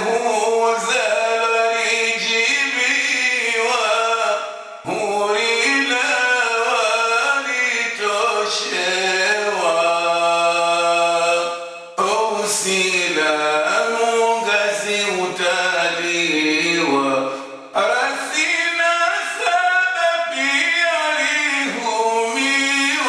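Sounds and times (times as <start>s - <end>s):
man chanting: 0.0s - 23.0s.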